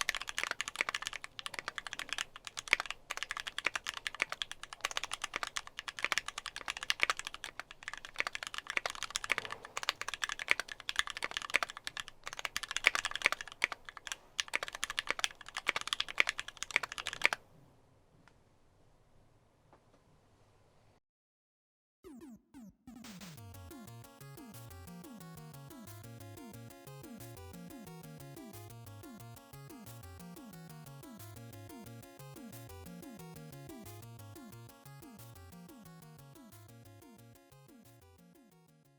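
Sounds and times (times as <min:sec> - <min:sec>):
fast mechanical keyboard typing: 0:00.0 - 0:17.4, 0:23.4 - 0:38.9.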